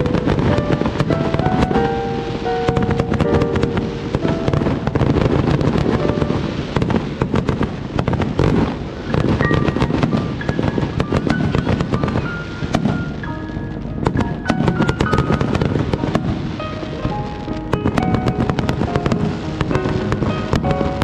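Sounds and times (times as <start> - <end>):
melody playing: 0.0 - 7.2, 9.2 - 21.0
fireworks cracking and banging: 0.0 - 21.0.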